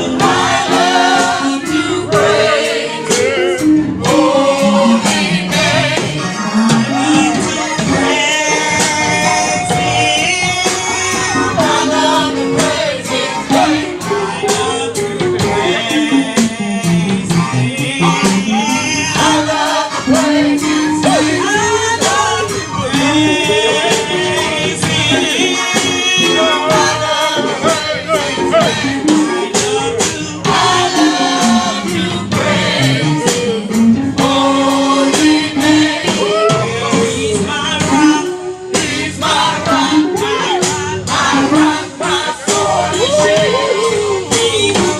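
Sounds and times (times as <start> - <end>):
band playing: 0.0 - 44.9
drums beating: 0.0 - 44.9
people singing gospel: 0.0 - 44.9.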